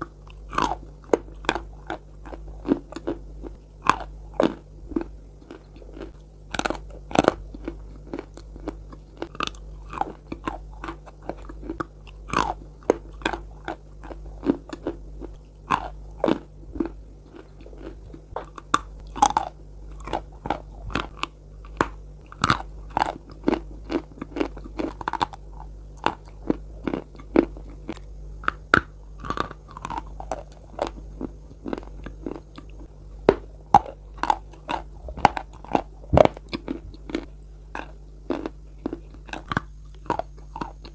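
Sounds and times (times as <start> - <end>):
crunching and chewing chalk: 0.0 - 40.9.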